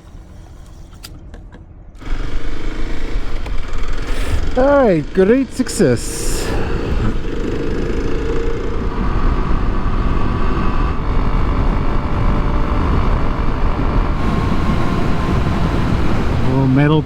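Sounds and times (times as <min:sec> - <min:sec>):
wind and road noise: 0:00.0 - 0:17.0
motorcycle engine running: 0:02.0 - 0:17.0.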